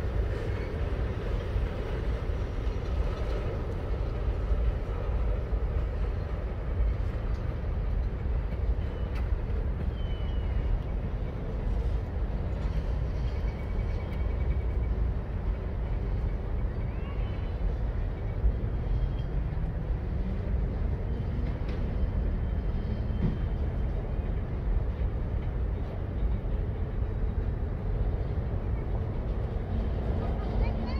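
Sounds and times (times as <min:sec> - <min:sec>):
steel wheels rumbling on rail: 0:00.0 - 0:30.9.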